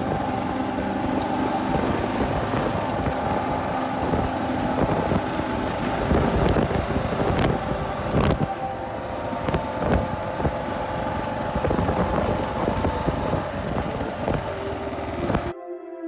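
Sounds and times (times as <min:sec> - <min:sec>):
motorcycle engine running: 0:00.0 - 0:15.5
wind buffeting microphone: 0:00.0 - 0:15.5
ambient music: 0:00.0 - 0:16.0.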